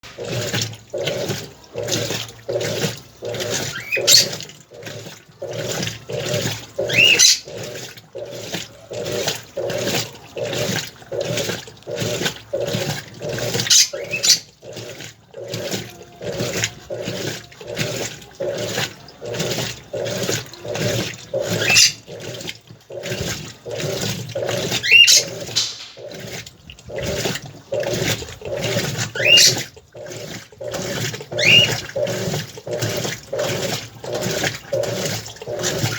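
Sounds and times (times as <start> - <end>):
washing machine sloshing: 0.0 - 35.9.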